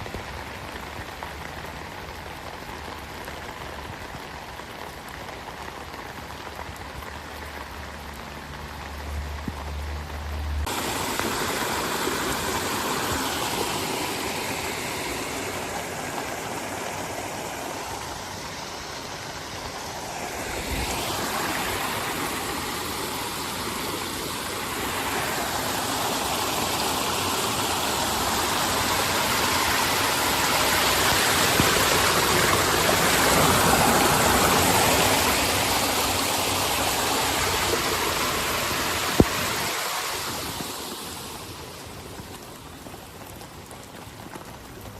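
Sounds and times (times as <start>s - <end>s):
fast-flowing floodwater rushing: 0.0s - 44.9s
heavy rain falling: 0.0s - 44.9s.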